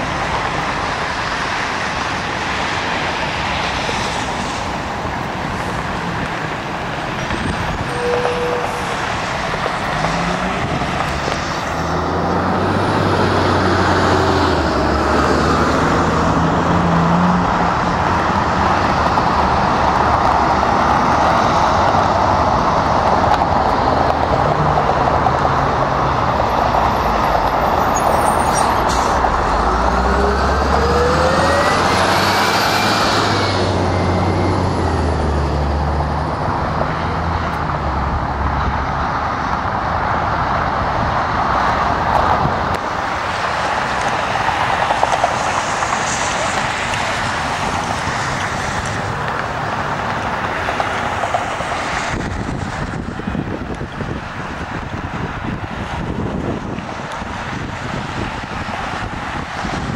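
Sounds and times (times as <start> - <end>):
distant jet engines roaring: 0.0 - 59.9.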